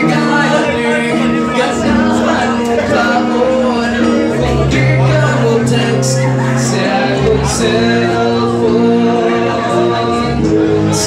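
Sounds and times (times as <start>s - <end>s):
bass line: 0.0s - 11.0s
electric guitars playing: 0.0s - 11.0s
man singing: 0.0s - 11.0s.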